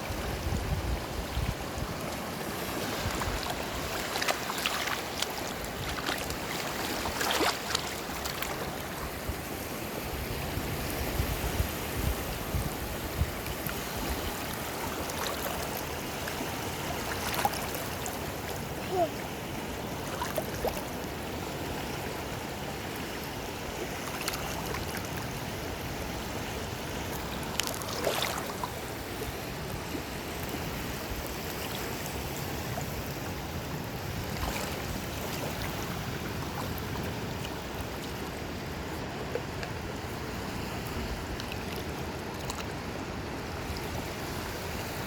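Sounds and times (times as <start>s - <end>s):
sea waves washing on shore: 0.0s - 45.0s.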